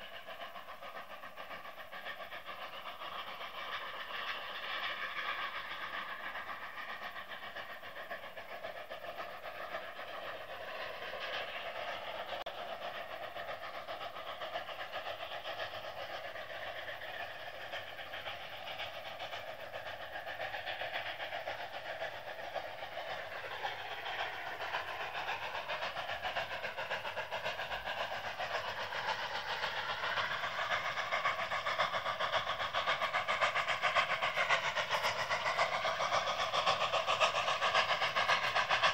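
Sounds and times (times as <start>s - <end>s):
steam locomotives working hard: 0.0s - 38.9s.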